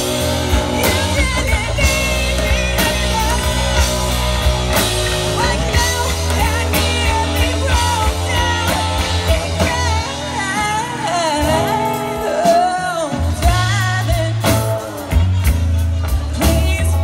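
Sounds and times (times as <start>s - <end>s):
bass line: 0.0s - 17.0s
lead singer singing: 0.0s - 17.0s
live rock band playing: 0.0s - 17.0s.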